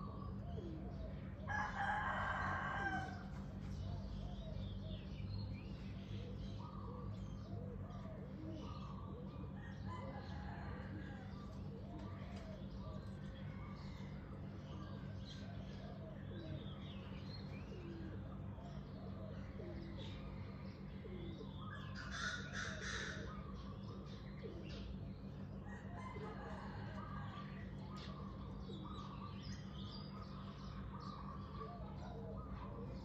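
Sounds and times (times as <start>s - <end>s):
birds chirping and calling: 0.0s - 33.0s
steady low hum: 0.0s - 33.0s.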